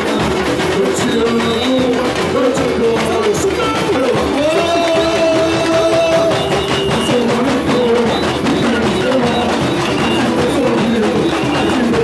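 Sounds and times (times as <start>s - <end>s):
carnival band music: 0.0s - 12.0s
drum and percussion beat: 0.0s - 12.0s.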